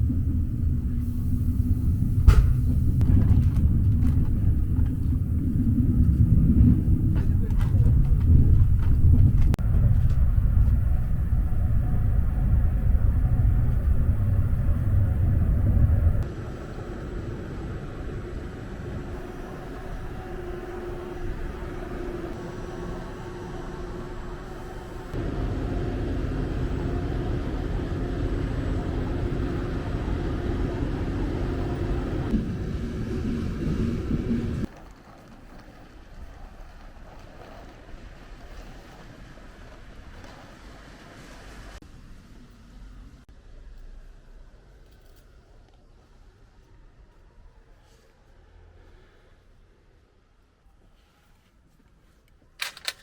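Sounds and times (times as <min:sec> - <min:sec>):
vehicle rumbling in motion: 0:00.0 - 0:50.2
faint low hum: 0:00.0 - 0:53.0.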